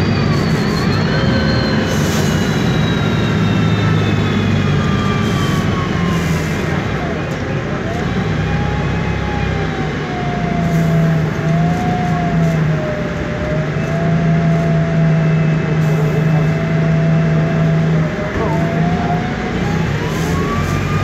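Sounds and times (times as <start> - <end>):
bus engine idling: 0.0 - 21.0.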